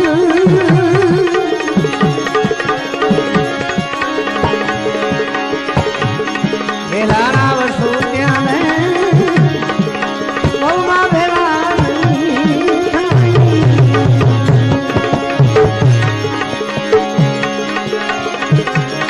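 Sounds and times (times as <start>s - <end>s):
devotional song with tabla: 0.0s - 19.0s.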